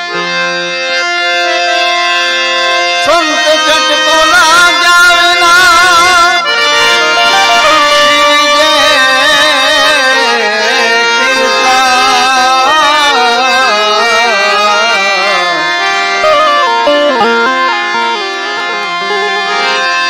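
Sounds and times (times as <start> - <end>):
harmonium: 0.0 - 20.0
man singing devotional song: 2.3 - 20.0.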